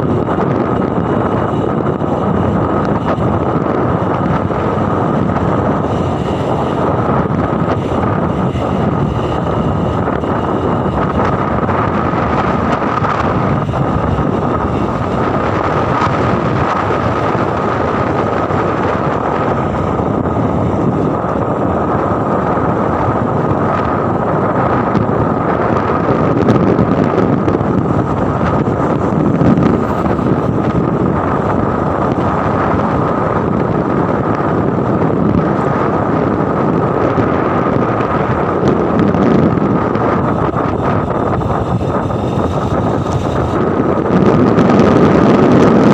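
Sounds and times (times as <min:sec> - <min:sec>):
road and engine noise: 0:00.0 - 0:45.9
thin high whine: 0:00.0 - 0:45.9
wind buffeting microphone: 0:00.0 - 0:45.9.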